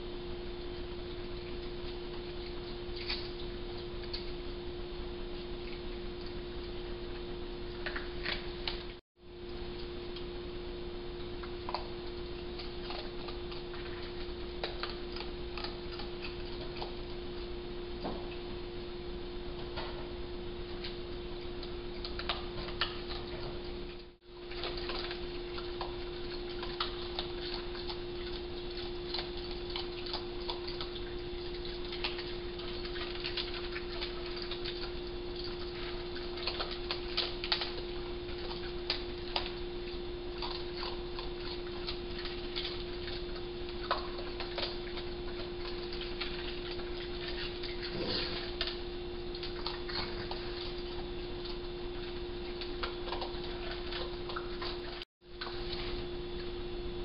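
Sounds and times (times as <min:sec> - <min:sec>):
steady hum and hiss: 0:00.0 - 0:57.0
raccoons crunching dry kibble: 0:00.7 - 0:04.6, 0:05.3 - 0:09.9, 0:11.2 - 0:17.5, 0:20.6 - 0:56.5.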